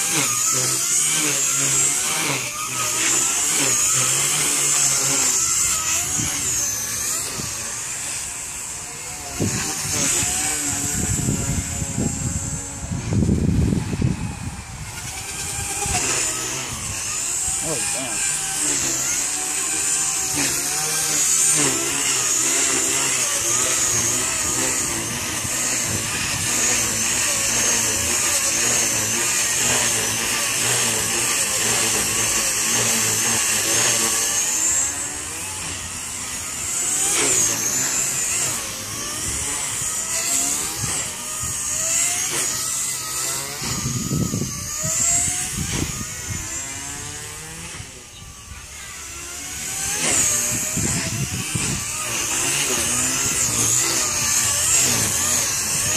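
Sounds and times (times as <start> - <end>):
rc helicopter rotor whine: 0.0 - 55.9.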